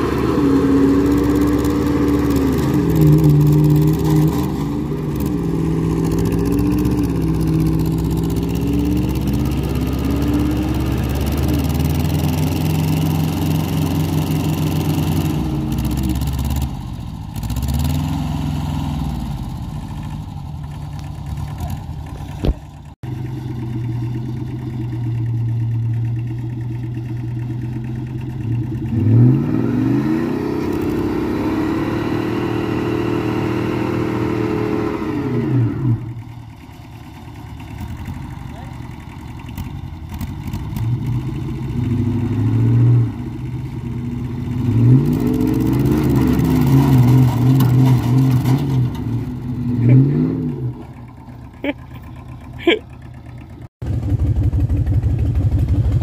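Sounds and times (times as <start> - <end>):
tractor engine running: 0.0 - 56.0
truck engine revving: 0.0 - 56.0.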